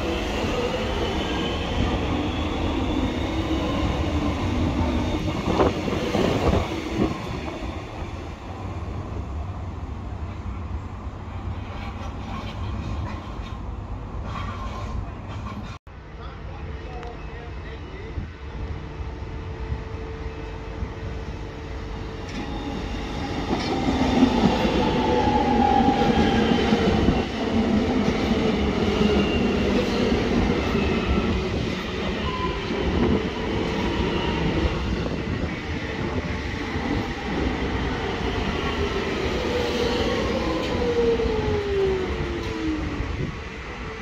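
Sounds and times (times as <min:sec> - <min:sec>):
train wheels rumbling on rails: 0:00.0 - 0:08.9, 0:11.2 - 0:15.8, 0:21.9 - 0:44.0.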